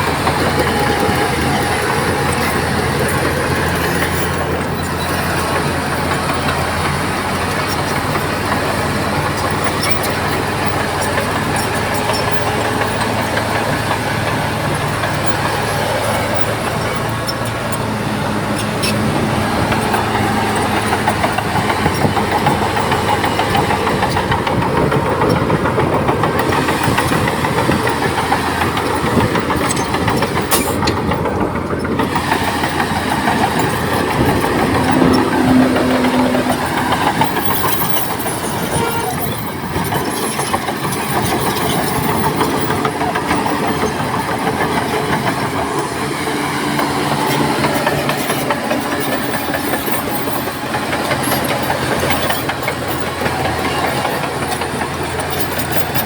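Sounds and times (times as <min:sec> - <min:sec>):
bulldozer diesel engine running: 0:00.0 - 0:56.0
steel tracks clattering: 0:00.0 - 0:56.0.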